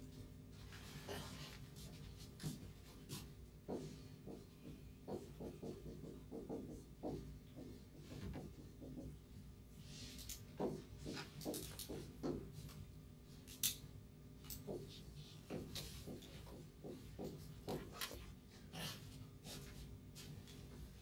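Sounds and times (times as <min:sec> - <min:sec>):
faint room hum: 0:00.0 - 0:21.0
marker drawing on whiteboard: 0:00.6 - 0:12.8, 0:14.6 - 0:21.0.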